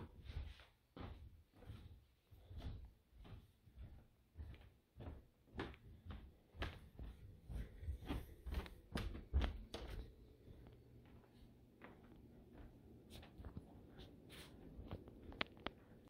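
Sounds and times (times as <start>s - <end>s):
footsteps on carpeted stairs: 0.0s - 16.0s.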